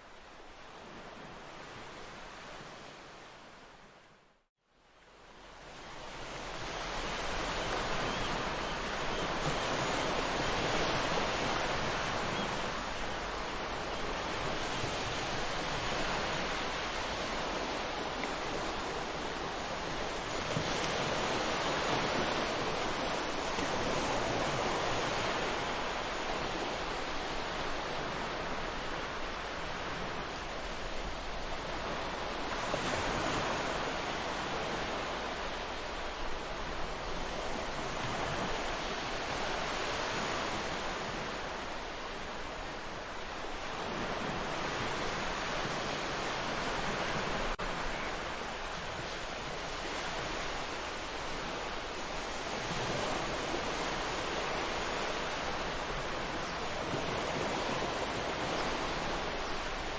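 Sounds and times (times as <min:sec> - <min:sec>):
ocean surf washing on beach: 0:05.1 - 0:59.9.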